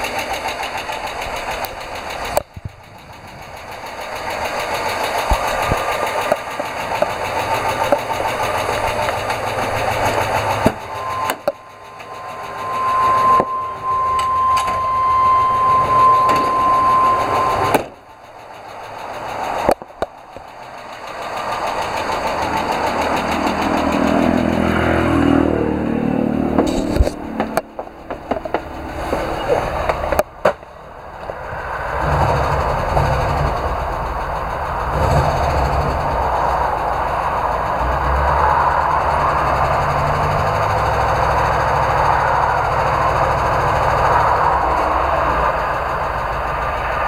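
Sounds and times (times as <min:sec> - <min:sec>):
bus engine fast tapping: 0:00.0 - 0:47.0
steady whine: 0:00.0 - 0:47.0.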